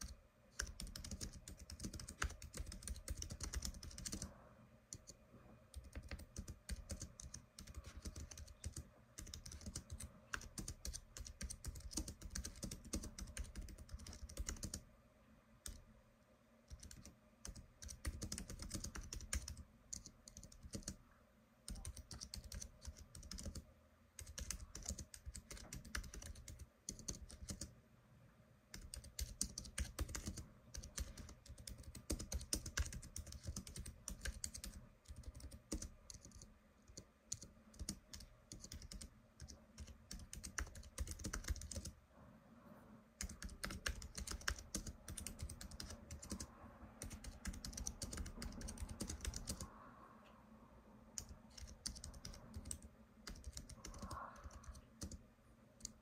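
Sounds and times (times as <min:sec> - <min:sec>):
typing on keyboard: 0:00.0 - 0:04.3, 0:04.9 - 0:14.8, 0:15.6 - 0:15.9, 0:16.7 - 0:21.0, 0:21.7 - 0:27.7, 0:28.7 - 0:42.0, 0:43.2 - 0:49.7, 0:51.2 - 0:55.2, 0:55.8 - 0:56.0.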